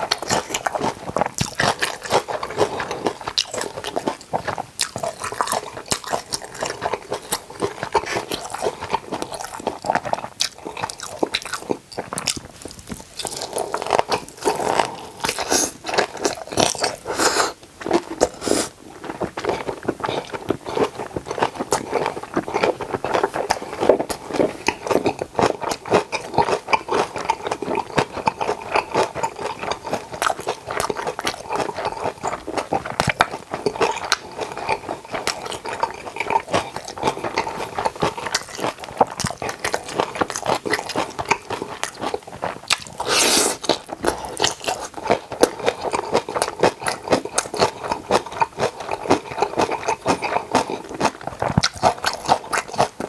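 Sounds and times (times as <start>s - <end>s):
wet crunching and chewing: 0.0s - 53.0s.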